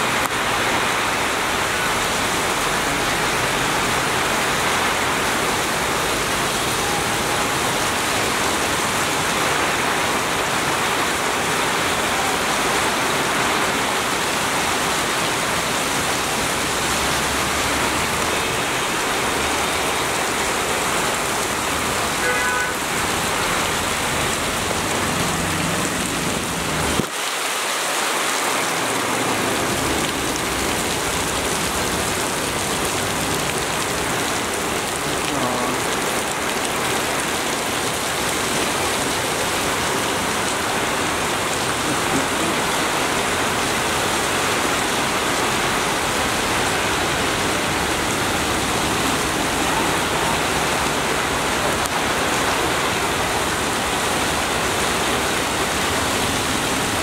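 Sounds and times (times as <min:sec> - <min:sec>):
heavy rain pouring on a street: 0:00.0 - 0:57.0.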